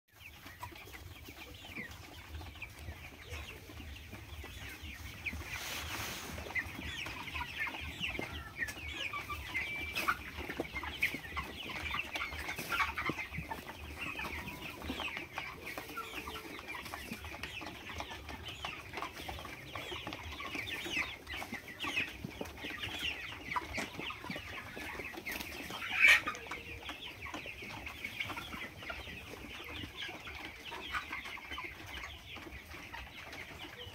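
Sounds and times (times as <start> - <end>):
hens clucking: 0.1 - 33.9.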